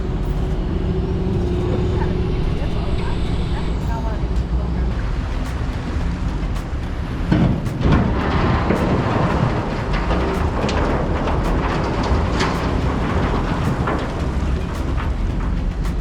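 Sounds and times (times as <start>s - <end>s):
boat engine rumbling: 0.0s - 16.0s
rushing noise: 0.0s - 16.0s.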